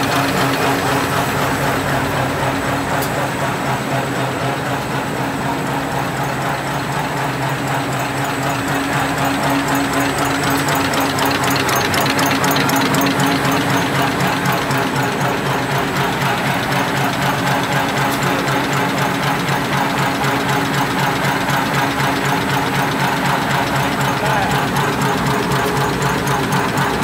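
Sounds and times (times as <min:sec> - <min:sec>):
machine clatter: 0:00.0 - 0:27.0.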